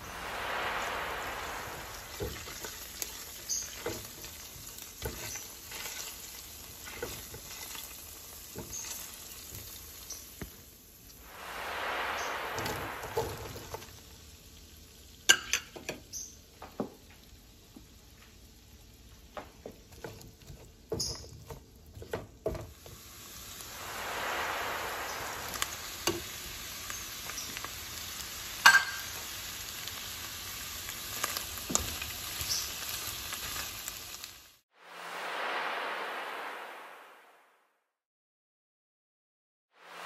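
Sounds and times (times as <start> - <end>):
food sizzling in a pan: 0.0 - 37.0.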